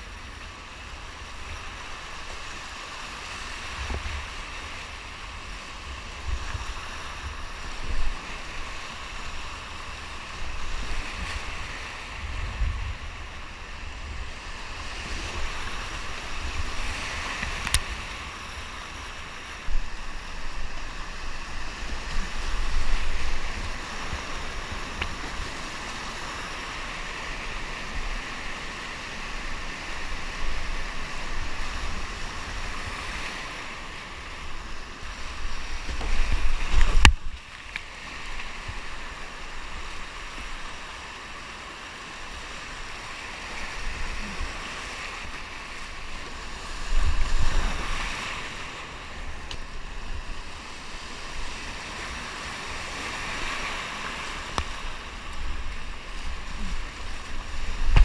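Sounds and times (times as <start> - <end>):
whitewater rushing: 0.0 - 58.0.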